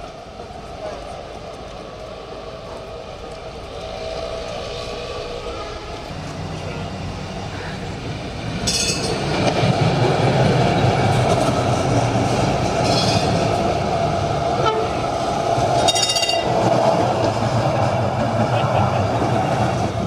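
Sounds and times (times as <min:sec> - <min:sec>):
tram passing with rumble: 0:00.0 - 0:20.0.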